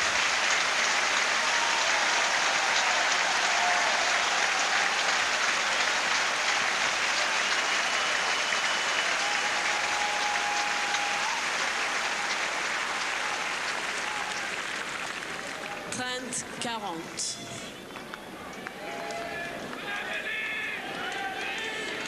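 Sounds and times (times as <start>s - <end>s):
crowd applauding: 0.0s - 16.6s, 17.4s - 22.0s.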